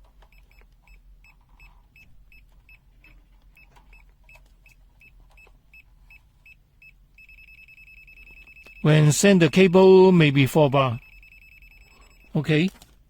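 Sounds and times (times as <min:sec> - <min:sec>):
multimeter beeping: 0:02.0 - 0:12.5.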